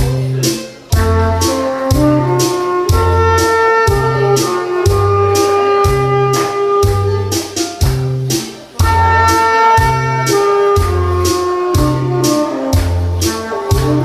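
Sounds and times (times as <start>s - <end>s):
bass and drums beat: 0.0s - 14.0s
saxophone melody: 0.0s - 14.0s.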